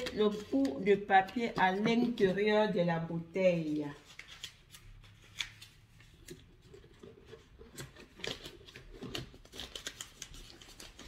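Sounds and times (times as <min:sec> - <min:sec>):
paper crinkling: 0:00.0 - 0:02.4, 0:03.9 - 0:11.0.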